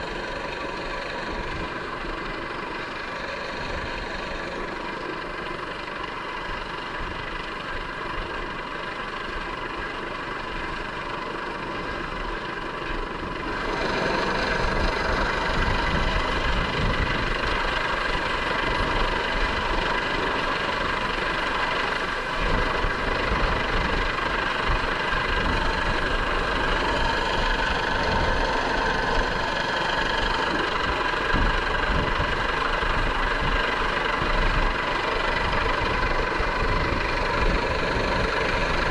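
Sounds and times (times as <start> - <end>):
helicopter turbine whine and rotor: 0.0 - 38.9.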